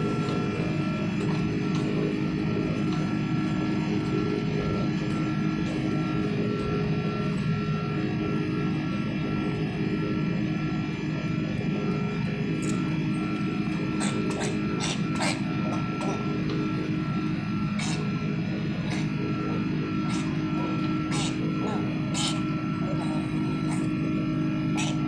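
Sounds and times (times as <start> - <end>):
airliner engines droning: 0.0 - 25.0.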